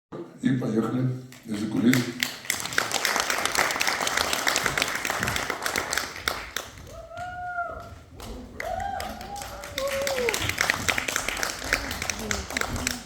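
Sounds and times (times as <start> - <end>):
audience clapping: 1.3 - 13.0.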